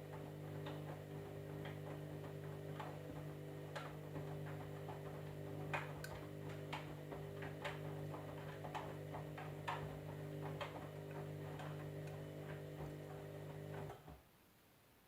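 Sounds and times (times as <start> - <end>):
washing machine motor hum: 0.0 - 14.2
load tumbling clicks: 0.1 - 14.2.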